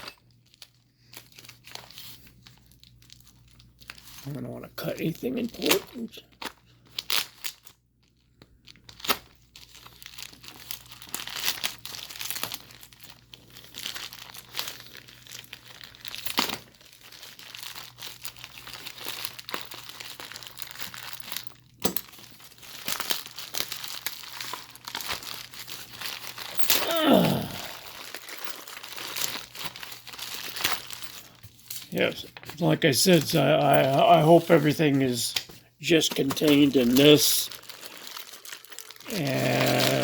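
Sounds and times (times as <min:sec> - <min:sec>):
wrapping crinkling and tearing: 0:00.0 - 0:40.0.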